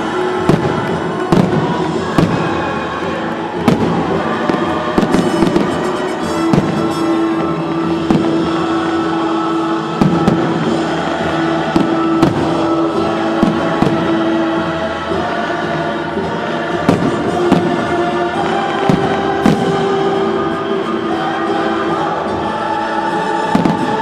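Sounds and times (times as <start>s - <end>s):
choir holding long notes: 0.0s - 24.0s
fireworks bursting: 0.0s - 24.0s
loud music: 0.0s - 24.0s.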